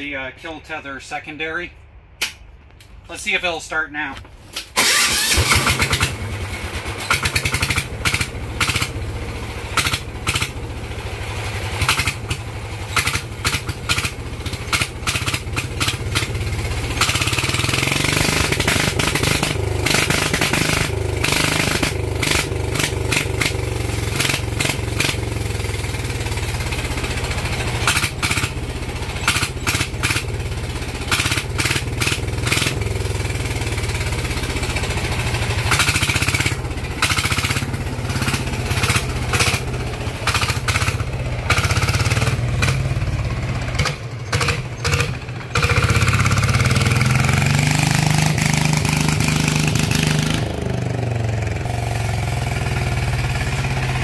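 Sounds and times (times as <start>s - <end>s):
diesel engine running: 4.3s - 54.0s.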